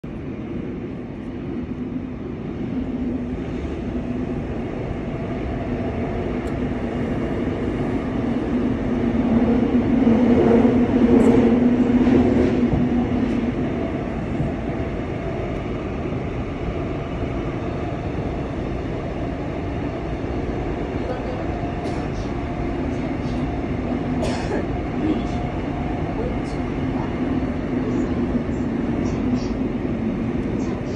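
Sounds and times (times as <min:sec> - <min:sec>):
subway train rumble: 0:00.0 - 0:30.9.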